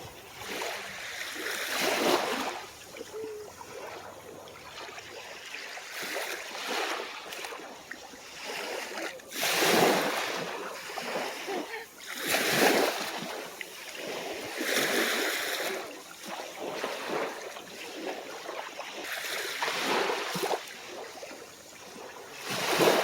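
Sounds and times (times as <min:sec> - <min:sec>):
small waves washing ashore: 0:00.0 - 0:23.0.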